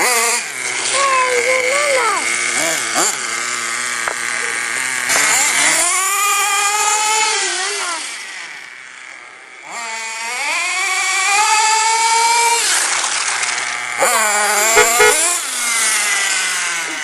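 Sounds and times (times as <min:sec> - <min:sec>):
rc car engine revving: 0:00.0 - 0:17.0.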